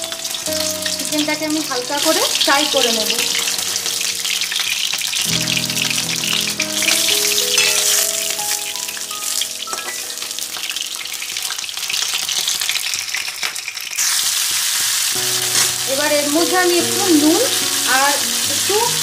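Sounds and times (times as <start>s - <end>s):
background music of held notes: 0.0s - 12.1s, 15.2s - 19.0s
chicken sizzling in oil: 0.0s - 19.0s.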